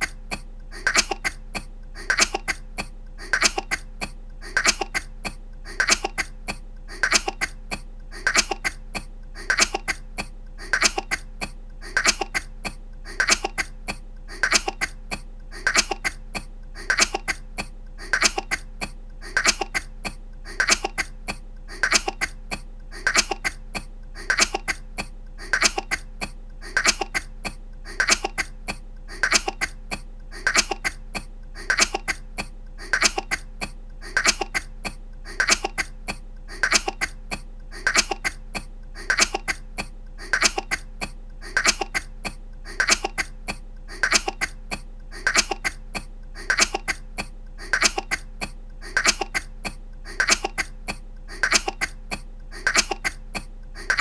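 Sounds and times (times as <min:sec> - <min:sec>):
woman coughing lightly: 0:00.0 - 0:54.0.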